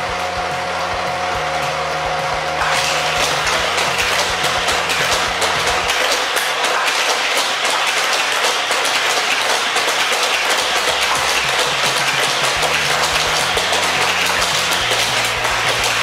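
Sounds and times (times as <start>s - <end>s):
toy track boosters whirring: 0.0s - 16.0s
toy cars rattling on plastic track: 2.6s - 16.0s.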